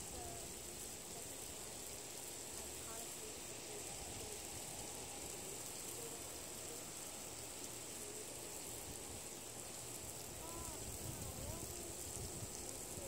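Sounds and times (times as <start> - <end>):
constant high-pitched tone: 0.0 - 13.0
outdoor background hiss: 0.0 - 13.0.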